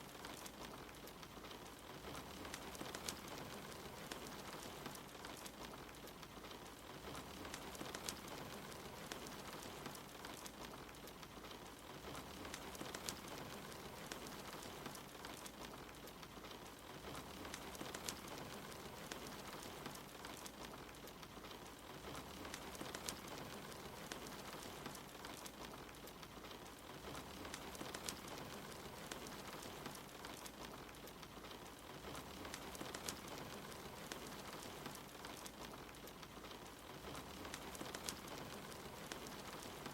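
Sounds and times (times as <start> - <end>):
rain falling: 0.0 - 39.9
wood fire crackling: 0.0 - 39.9.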